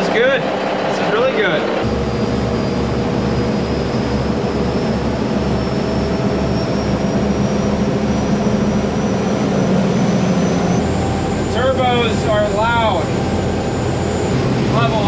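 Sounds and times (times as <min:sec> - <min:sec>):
diesel boat engines throbbing: 0:00.0 - 0:15.0
high turbo whine: 0:00.0 - 0:15.0.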